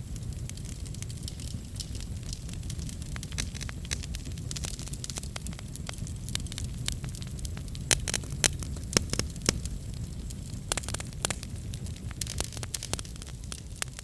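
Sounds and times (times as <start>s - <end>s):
fire popping and snapping: 0.0s - 14.0s
wood fire crackling: 0.0s - 14.0s.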